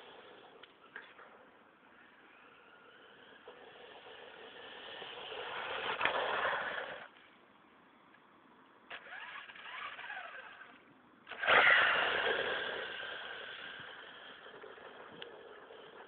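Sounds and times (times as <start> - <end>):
rc buggy motor whining: 0.0 - 7.2, 8.9 - 16.0.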